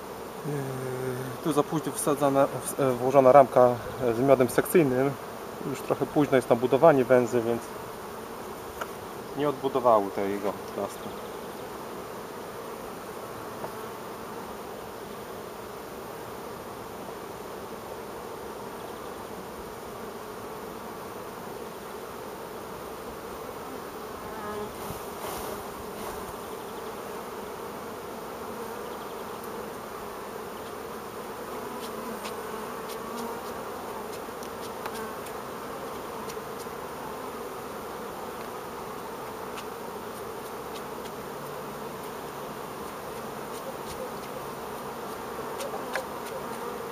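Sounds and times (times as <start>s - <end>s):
bees buzzing: 0.0s - 46.9s.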